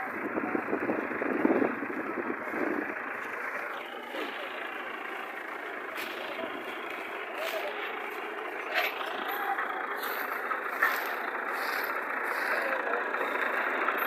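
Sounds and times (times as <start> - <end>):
indistinct voices: 0.0 - 14.0
muffled tractor engine running: 0.0 - 14.0.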